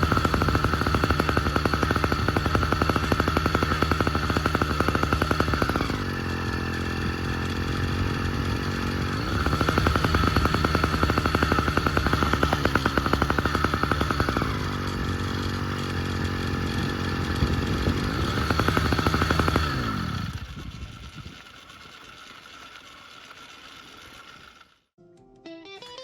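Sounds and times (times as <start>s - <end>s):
two-stroke engine running: 0.0s - 24.9s.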